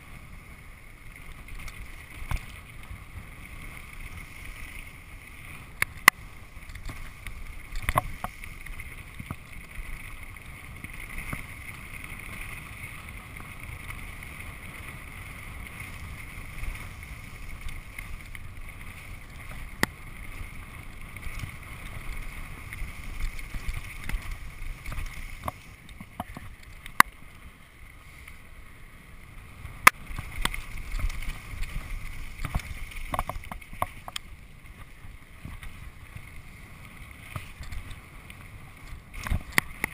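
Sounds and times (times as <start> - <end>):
bike tyres rumbling on dirt: 0.0 - 39.9
bike clicks and clatters: 1.2 - 27.5, 29.7 - 39.9.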